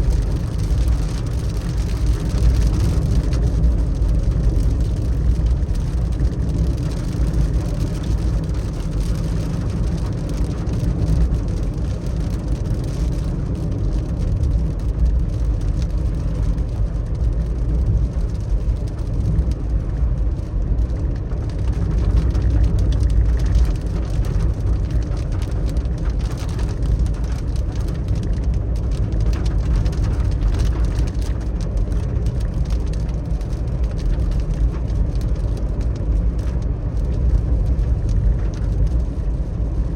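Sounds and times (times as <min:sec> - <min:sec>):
car engine and tyre rumble: 0:00.0 - 0:39.9
raindrops ticking on car: 0:00.0 - 0:39.9.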